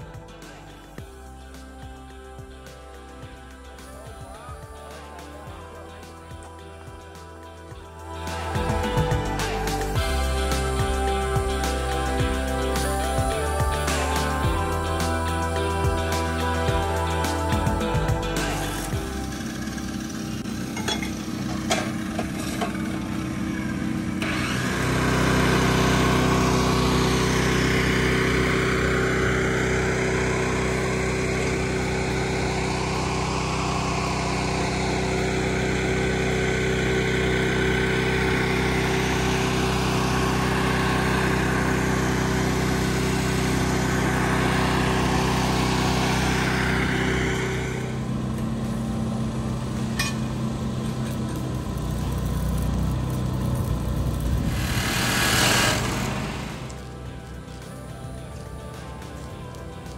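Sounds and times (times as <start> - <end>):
machinery running: 0.0 - 59.9.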